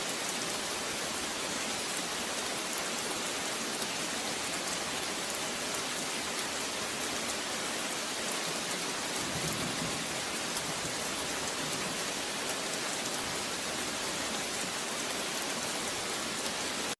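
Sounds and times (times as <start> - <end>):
steady rain falling: 0.0 - 16.9.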